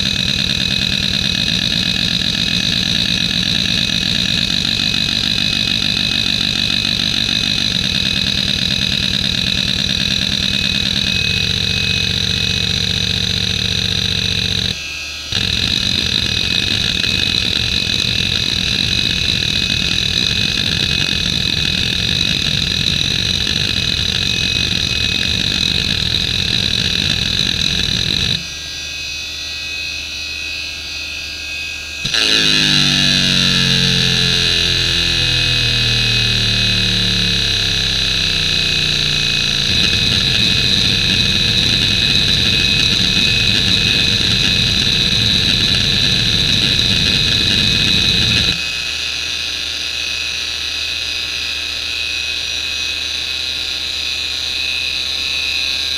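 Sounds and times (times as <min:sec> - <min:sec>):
hard drive seek chatter: 0:00.0 - 0:28.6, 0:32.0 - 0:48.7
hard drive spindle whine: 0:00.0 - 0:30.4, 0:32.0 - 0:49.2.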